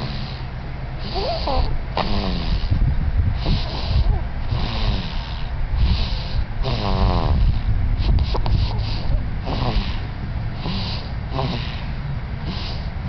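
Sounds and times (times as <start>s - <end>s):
baby snoring: 0.0s - 2.8s, 3.4s - 13.0s.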